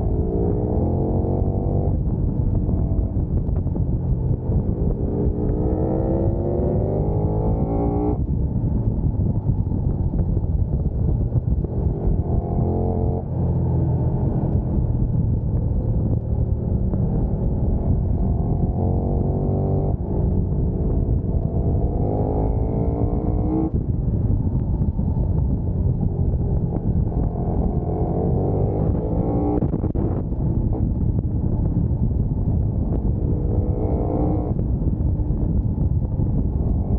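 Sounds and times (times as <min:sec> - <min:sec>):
motorcycle engine accelerating: 0:00.0 - 0:36.9
wind rushing on microphone: 0:00.0 - 0:36.9.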